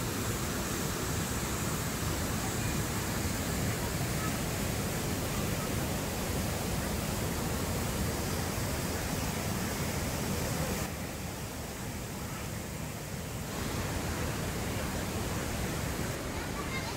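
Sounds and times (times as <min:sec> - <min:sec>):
white water rushing: 0:00.0 - 0:16.9.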